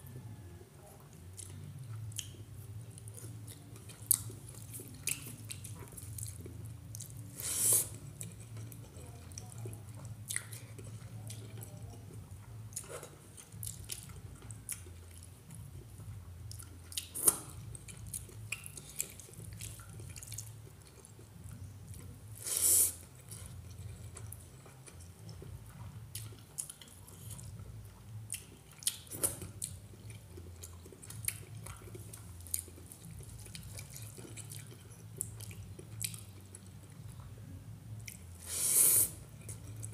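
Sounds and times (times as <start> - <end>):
chewing: 1.0 - 37.4, 38.0 - 39.9.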